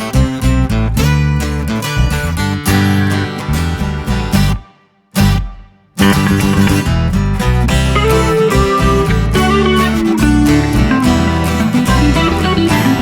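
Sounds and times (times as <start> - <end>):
guitar music with steady beat: 0.0 - 13.0.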